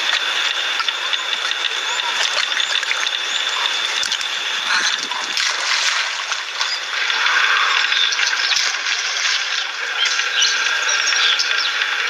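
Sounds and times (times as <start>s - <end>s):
water splashing and trickling: 0.0s - 10.2s.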